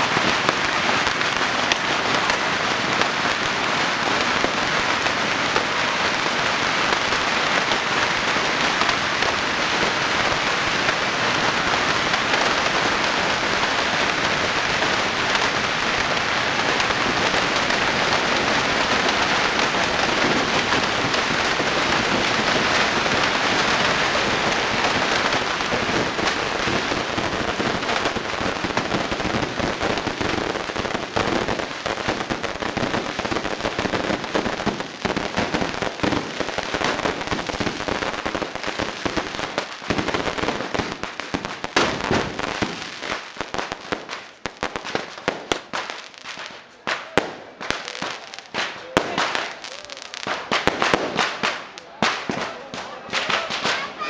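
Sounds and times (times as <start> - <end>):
firework cracks and pops: 0.0 - 54.0.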